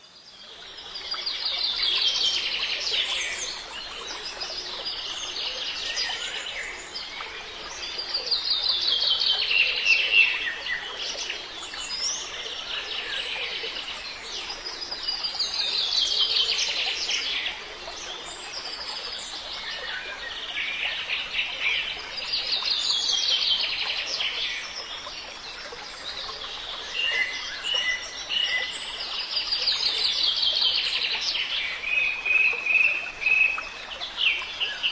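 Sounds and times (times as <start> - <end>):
faint steady hiss: 0.0 - 34.9
songbird singing: 0.0 - 34.9.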